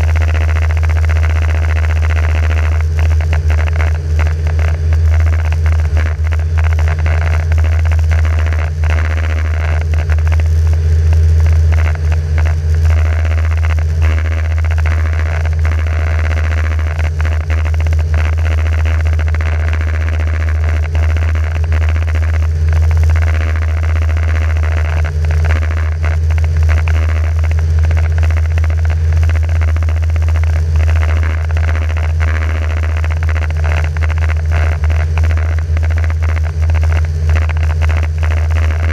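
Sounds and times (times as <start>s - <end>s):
microlight engine and propeller droning: 0.0s - 38.9s.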